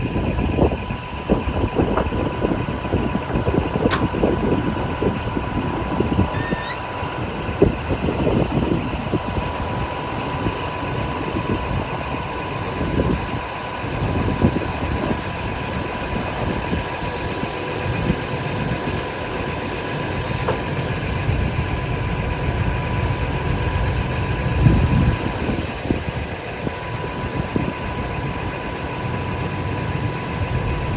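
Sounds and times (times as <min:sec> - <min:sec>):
steady high whine: 0:00.0 - 0:30.9
truck diesel engine idling: 0:00.0 - 0:30.9.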